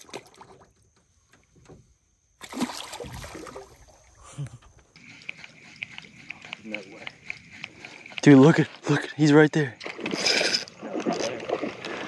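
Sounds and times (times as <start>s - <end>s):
water splashing: 0.0s - 0.8s, 2.4s - 4.4s, 5.0s - 12.0s.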